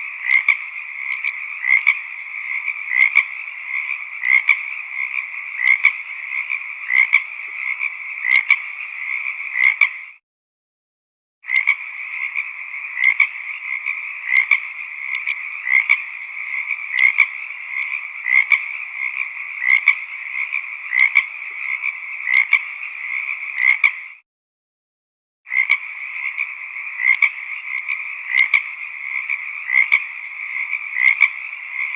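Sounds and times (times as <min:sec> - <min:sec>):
frogs croaking: 0:00.0 - 0:10.2, 0:11.4 - 0:24.2, 0:25.5 - 0:31.9.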